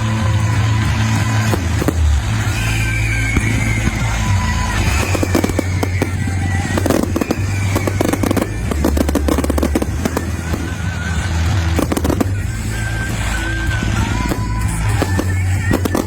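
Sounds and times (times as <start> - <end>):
background music with bass: 0.0 - 16.0
fireworks crackling and popping: 0.0 - 16.0.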